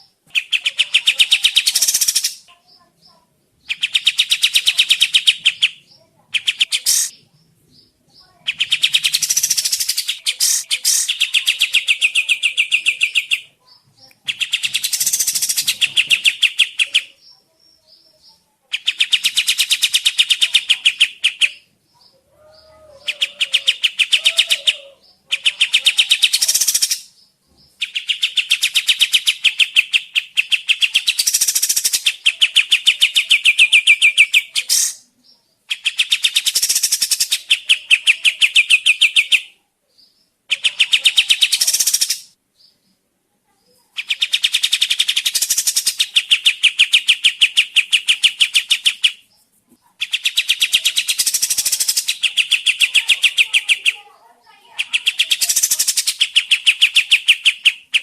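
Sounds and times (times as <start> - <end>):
bulbul rattling calls: 0.3 - 2.5, 3.6 - 7.2, 8.2 - 13.5, 14.2 - 17.2, 18.7 - 22.1, 23.0 - 27.2, 27.8 - 35.0, 35.7 - 39.5, 40.5 - 42.3, 44.0 - 49.2, 50.0 - 58.0.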